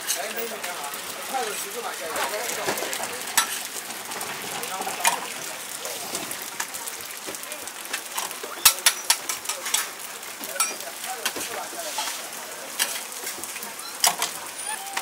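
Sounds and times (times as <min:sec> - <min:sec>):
food sizzling on griddle: 0:00.0 - 0:15.0.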